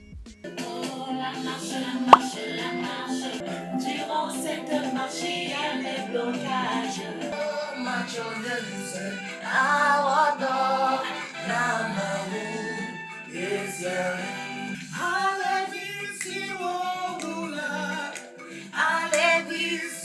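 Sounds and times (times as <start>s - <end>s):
song with singing voices: 0.0s - 20.0s.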